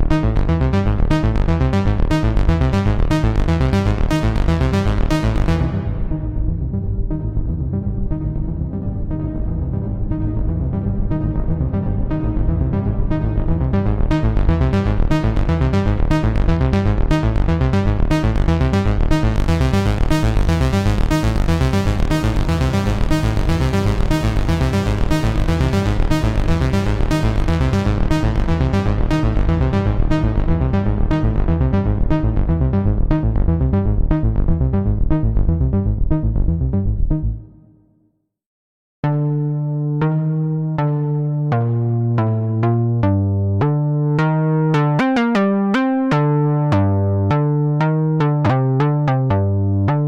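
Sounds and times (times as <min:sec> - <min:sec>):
synthesizer sequenced pattern: 0:00.0 - 0:37.7, 0:39.0 - 0:50.0.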